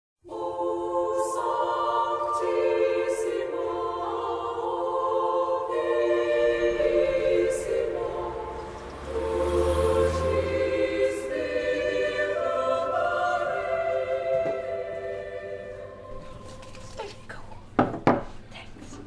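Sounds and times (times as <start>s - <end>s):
choir singing held chords: 0.2s - 17.0s.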